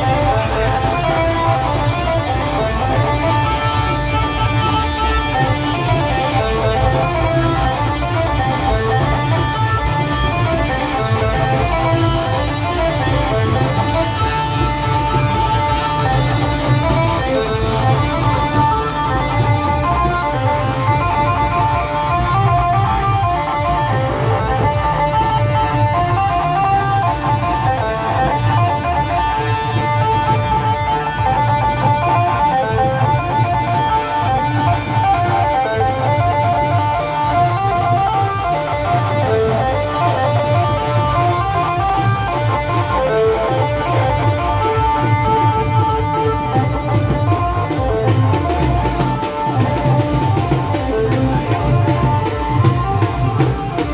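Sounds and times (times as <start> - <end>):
band music with repeating melody: 0.0 - 53.9.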